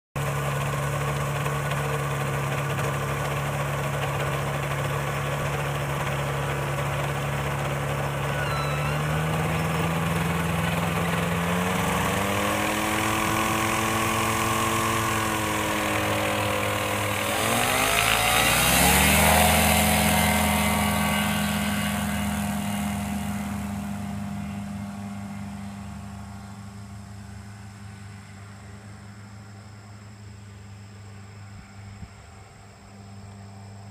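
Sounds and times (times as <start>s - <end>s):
propeller aircraft engine: 0.2s - 33.9s.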